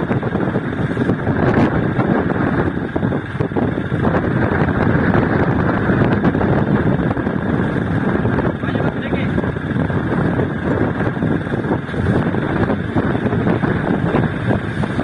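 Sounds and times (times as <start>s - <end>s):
diesel engine running: 0.0s - 15.0s
wind buffeting microphone: 0.0s - 15.0s.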